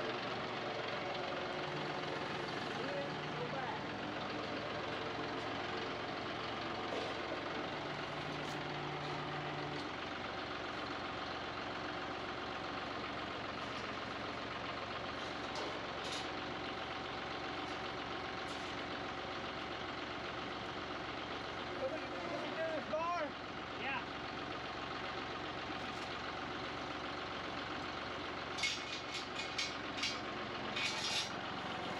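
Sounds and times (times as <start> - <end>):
tractor diesel engine idling: 0.0 - 31.9.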